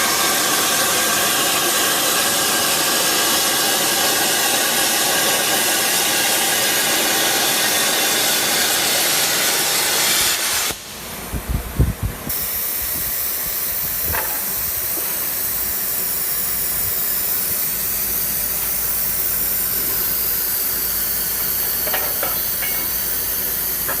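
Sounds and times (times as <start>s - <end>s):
plasma torch hissing: 0.0s - 11.1s, 12.2s - 24.0s.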